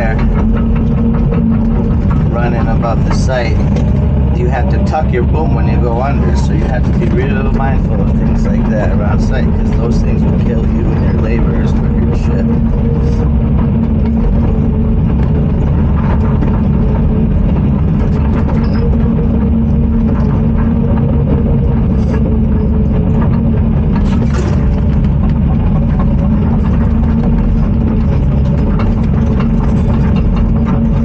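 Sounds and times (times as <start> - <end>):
diesel engine running: 0.0 - 31.0
faint clicks and knocks: 0.0 - 31.0.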